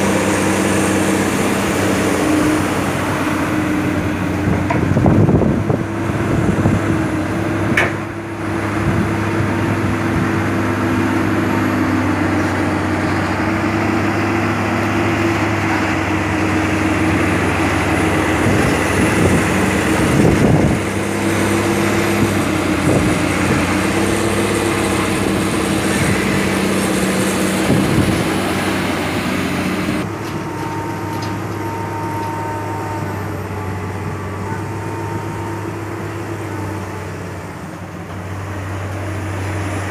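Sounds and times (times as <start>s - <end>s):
excavator engine drone: 0.0s - 39.9s
heavy diesel engines droning: 0.0s - 39.9s.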